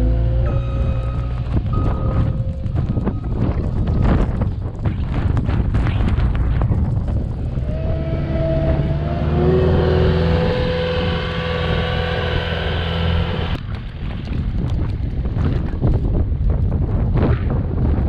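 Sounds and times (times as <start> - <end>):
snow plow engine running: 0.0 - 14.6
wind buffeting microphone: 0.0 - 18.0.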